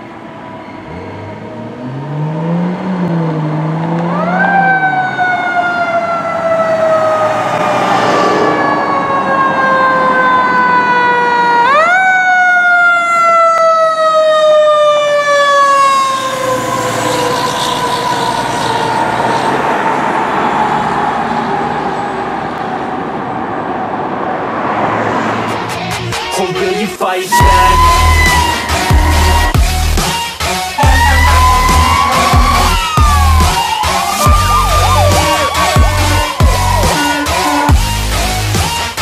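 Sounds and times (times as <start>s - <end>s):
fire truck siren wailing: 0.0s - 25.5s, 27.3s - 39.0s.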